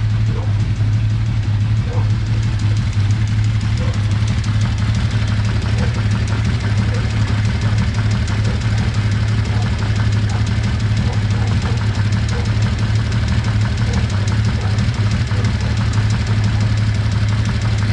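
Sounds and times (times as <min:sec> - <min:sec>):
motorcycle engine idling: 0:00.0 - 0:17.9
fast even ticking: 0:00.4 - 0:17.9.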